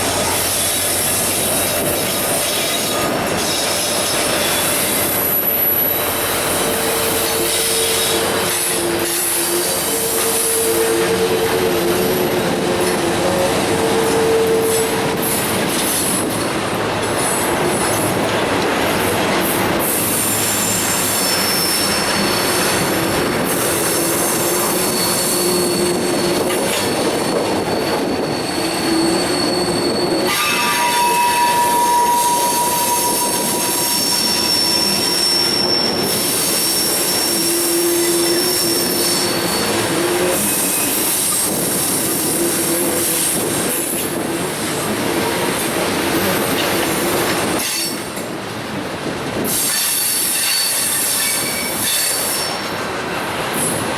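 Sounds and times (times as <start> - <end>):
train cars rolling rumble: 0.0 - 53.9
train wheels squealing on rails: 0.0 - 53.9.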